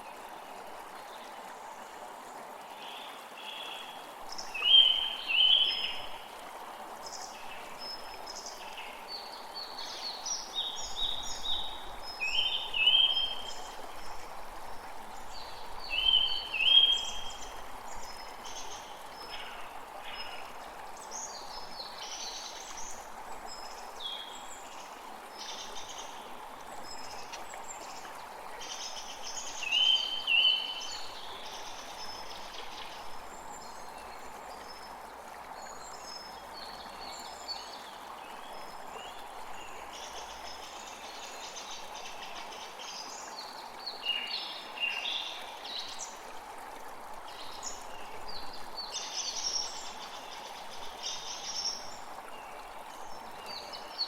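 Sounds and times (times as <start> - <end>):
creek water flowing: 0.0 - 54.0.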